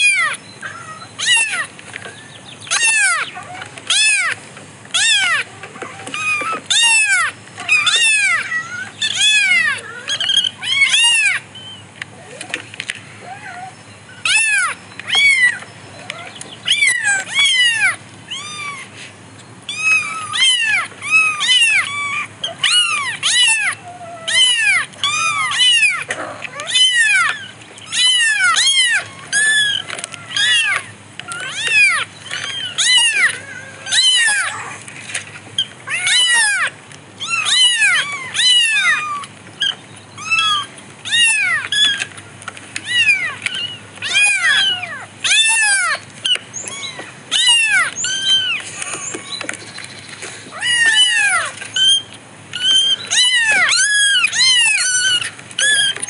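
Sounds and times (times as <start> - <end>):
kittens mewing: 0.0 - 56.0.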